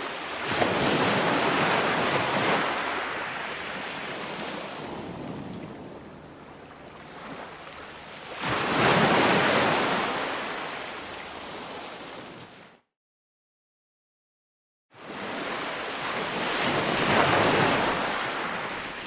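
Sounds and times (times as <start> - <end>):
ocean surf breaking: 0.0 - 12.3, 15.2 - 19.0.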